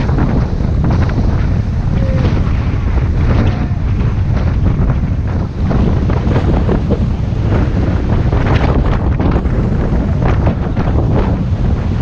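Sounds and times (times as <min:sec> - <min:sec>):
whitewater rapids rushing: 0:00.0 - 0:12.0
wind buffeting microphone: 0:00.0 - 0:12.0.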